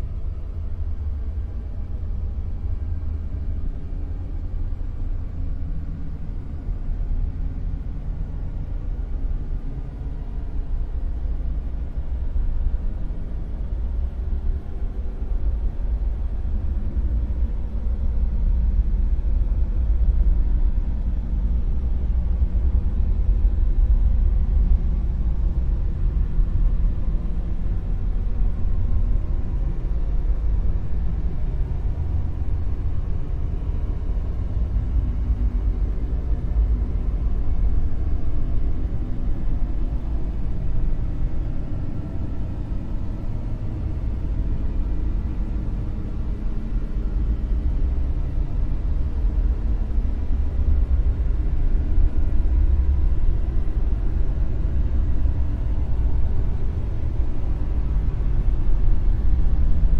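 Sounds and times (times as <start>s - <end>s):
low rumbling noise: 0.0s - 59.9s.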